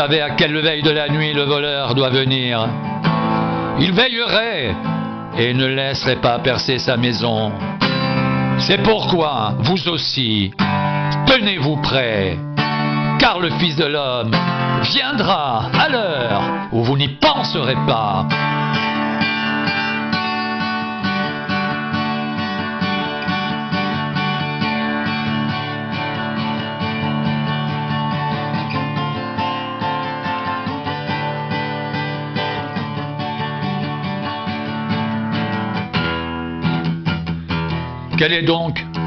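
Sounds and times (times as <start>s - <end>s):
steady bass line: 0.0s - 9.8s, 10.5s - 16.7s, 17.3s - 39.0s
acoustic guitar music: 0.0s - 39.0s.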